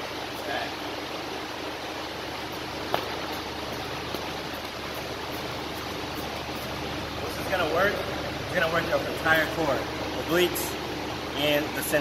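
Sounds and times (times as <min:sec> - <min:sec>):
steady rushing air noise: 0:00.0 - 0:12.0.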